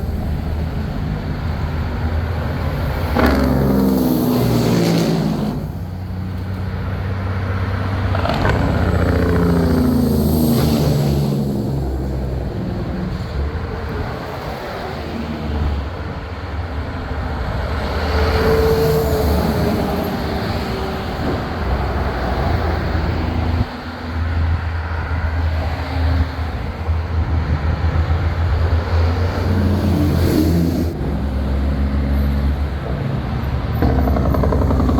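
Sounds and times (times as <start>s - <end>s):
trucks driving past rumbling: 0.0s - 34.9s.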